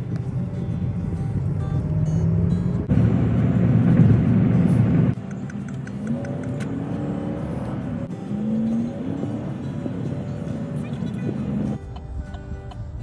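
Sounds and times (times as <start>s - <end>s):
engine hum rising in pitch: 0.0s - 12.7s
road and engine noise in car: 0.0s - 13.0s.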